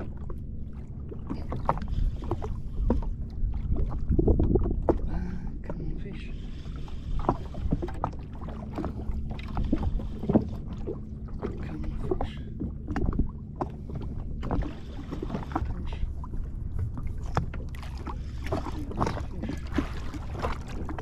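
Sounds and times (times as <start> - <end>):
knocks and splashes: 0.0 - 6.1, 7.2 - 21.0
water lapping against hull: 0.0 - 21.0.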